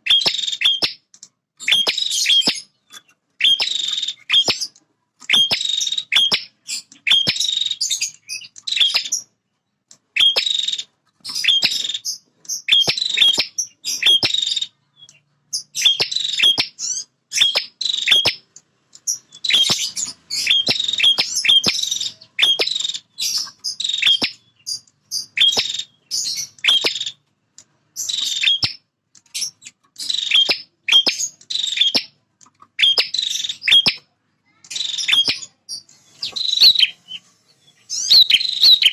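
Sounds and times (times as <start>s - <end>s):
bird singing rapid chattering notes: 0.0s - 38.9s.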